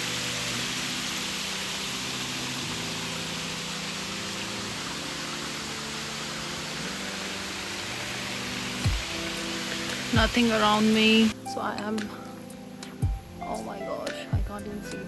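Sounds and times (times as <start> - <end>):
soft music of sustained chords: 0.0 - 15.0.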